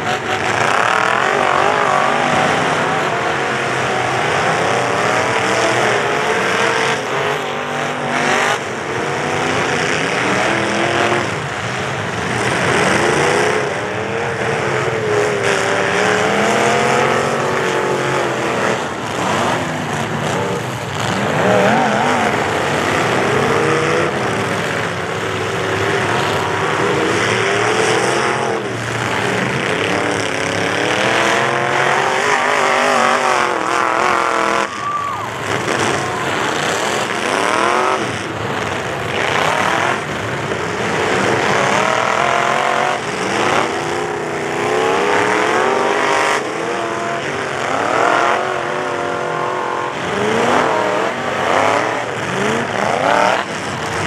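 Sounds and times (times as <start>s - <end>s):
truck engines revving hard: 0.0s - 54.0s.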